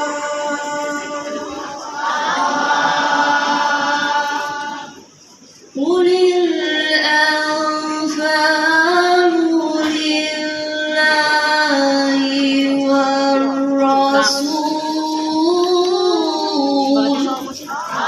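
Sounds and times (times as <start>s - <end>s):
woman reciting melodically: 0.0s - 18.0s.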